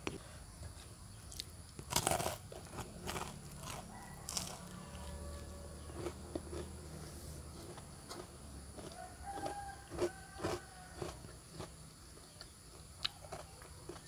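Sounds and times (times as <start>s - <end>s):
crunchy fritter being chewed: 0.0s - 14.0s.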